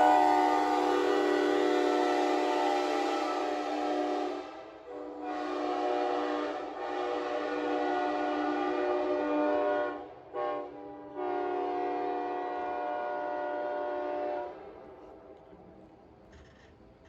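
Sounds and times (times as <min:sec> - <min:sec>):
locomotive air horn blasts: 0:00.0 - 0:14.8.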